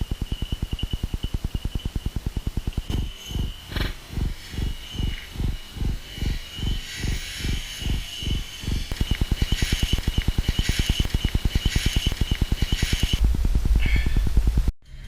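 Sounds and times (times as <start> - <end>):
steady high tone: 0.0 - 13.2
rhythmic interference thumping: 0.0 - 14.7.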